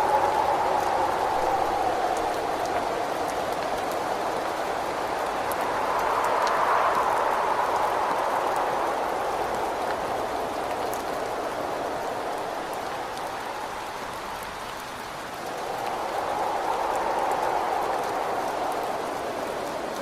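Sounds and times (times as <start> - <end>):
steady rain: 0.0 - 20.0
wind gusting: 0.0 - 20.0.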